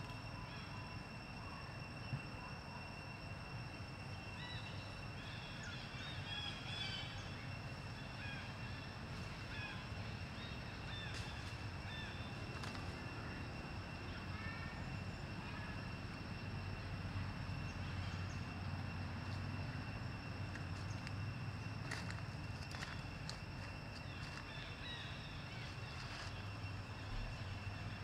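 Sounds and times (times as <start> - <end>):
steady high-pitched whine: 0.0 - 28.0.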